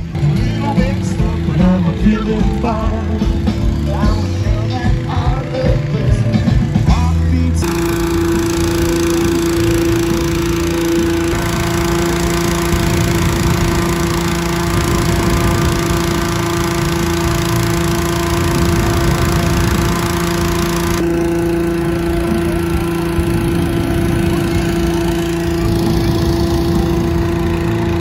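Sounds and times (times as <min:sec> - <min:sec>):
petrol engine fan running: 0:00.0 - 0:28.0.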